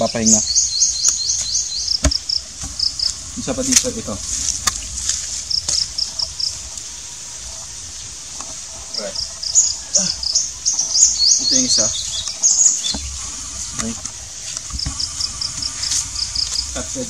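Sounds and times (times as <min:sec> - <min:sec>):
small bird chirping: 0:00.0 - 0:08.2, 0:08.8 - 0:17.0
insects buzzing: 0:00.0 - 0:17.0.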